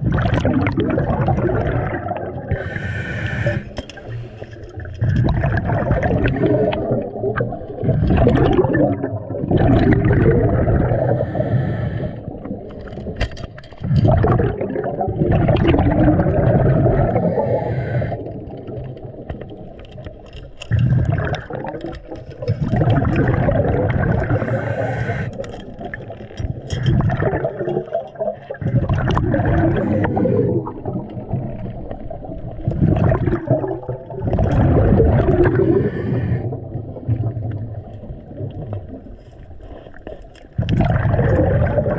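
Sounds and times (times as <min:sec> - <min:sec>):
underwater bubbling and gurgling: 0:00.0 - 0:41.9.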